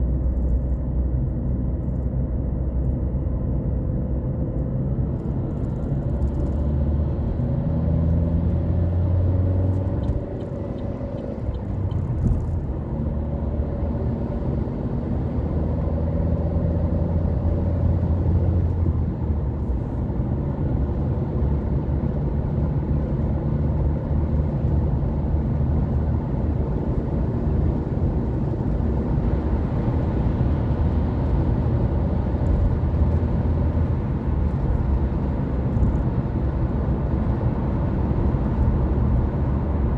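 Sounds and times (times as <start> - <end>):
car engine hum: 0.0 - 39.9
tyre and road noise: 4.2 - 39.9.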